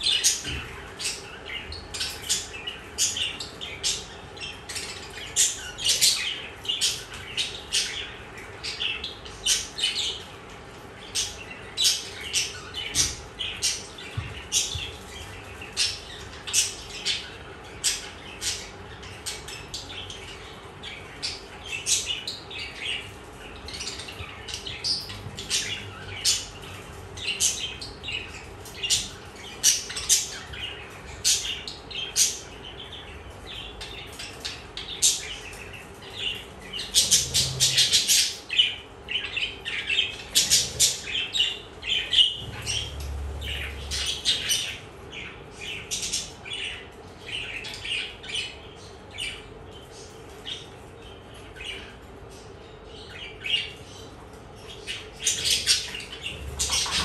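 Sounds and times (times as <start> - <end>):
budgerigars chirping and squawking: 0.0 - 57.0.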